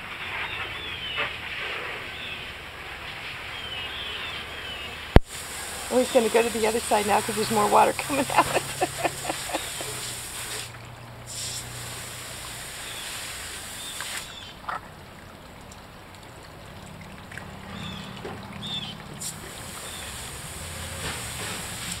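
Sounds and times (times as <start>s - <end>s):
water trickling: 0.0s - 22.0s.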